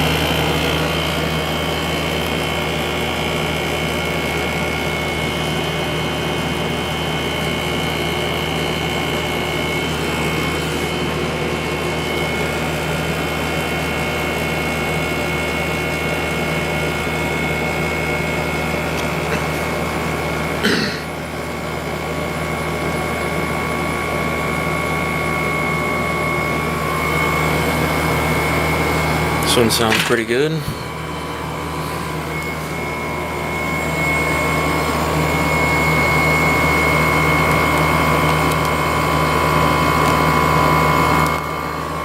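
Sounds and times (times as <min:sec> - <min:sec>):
air conditioner humming: 0:00.0 - 0:42.0.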